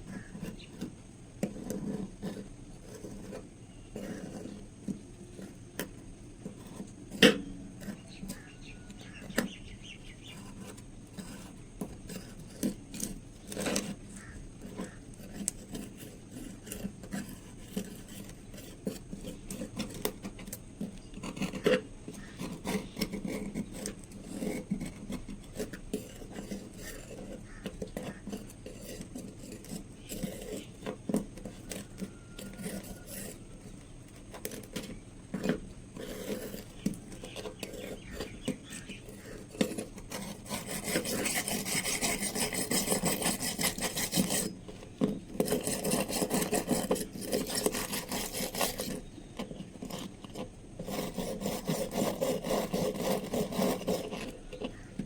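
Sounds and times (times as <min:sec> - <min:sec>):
metal scraping and rubbing: 0:10.2 - 0:54.9.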